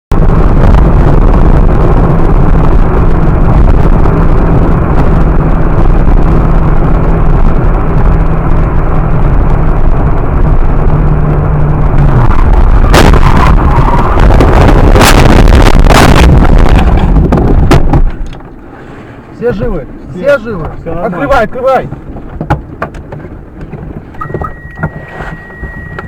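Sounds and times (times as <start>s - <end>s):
car engine hum: 0.1s - 26.0s
road noise: 0.1s - 26.0s.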